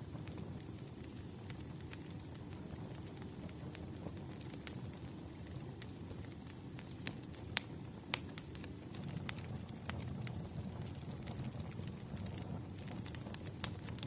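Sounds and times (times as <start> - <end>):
firewood crackling and popping: 0.0 - 14.0
low rustle of flames: 0.0 - 14.0.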